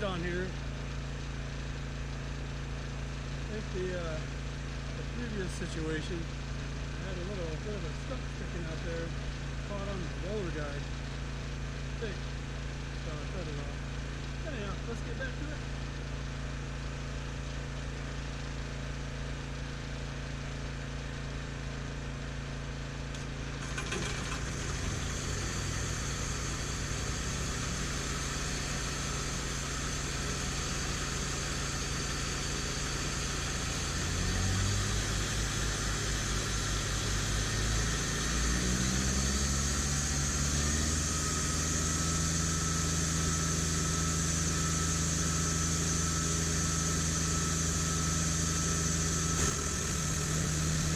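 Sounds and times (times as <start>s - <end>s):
engine idling and revving: 0.0s - 50.9s.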